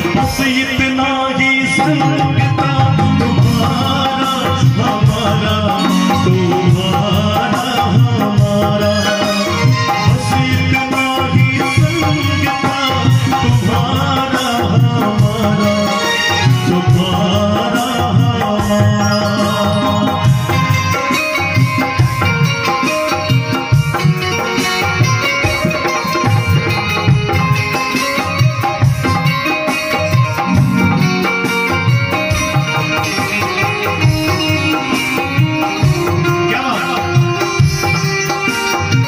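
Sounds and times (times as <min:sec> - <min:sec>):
devotional music ensemble: 0:00.0 - 0:39.0
hand drum rhythm: 0:00.0 - 0:39.0.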